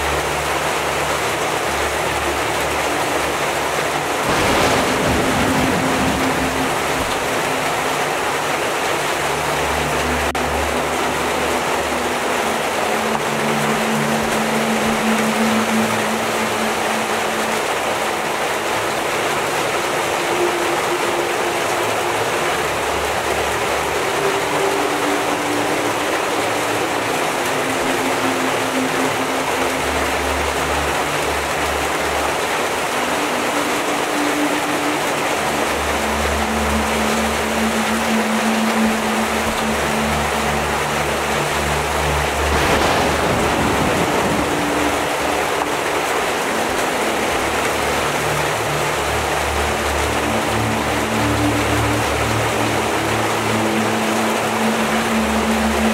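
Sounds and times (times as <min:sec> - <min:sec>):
heavy rain falling: 0:00.0 - 0:55.9
low soft musical drone: 0:00.0 - 0:55.9.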